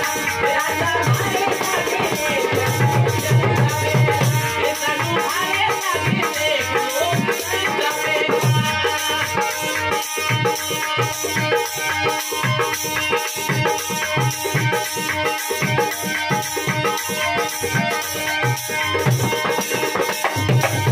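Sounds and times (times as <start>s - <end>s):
harmonium chords: 0.0s - 20.9s.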